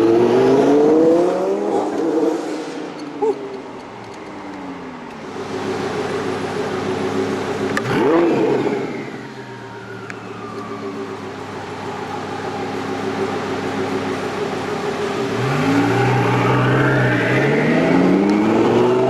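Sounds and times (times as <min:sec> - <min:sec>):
high engine whine: 0:00.0 - 0:19.0
sports car engine revving: 0:00.0 - 0:19.0.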